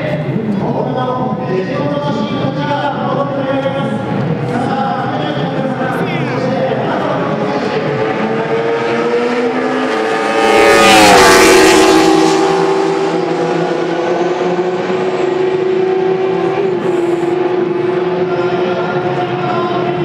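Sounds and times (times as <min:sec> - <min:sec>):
racing motorcycles passing: 0:00.0 - 0:20.0
racing car passing at speed: 0:02.3 - 0:20.0.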